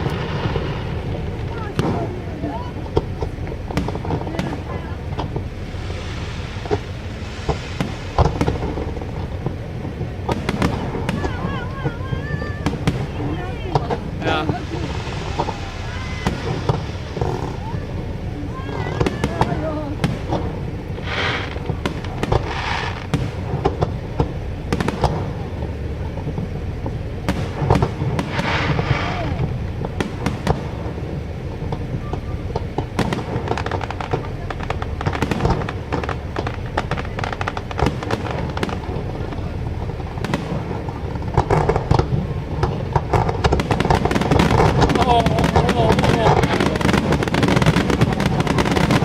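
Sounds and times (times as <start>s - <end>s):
fireworks crackling and popping: 0.0s - 49.0s
low rumble of booms: 0.0s - 49.0s.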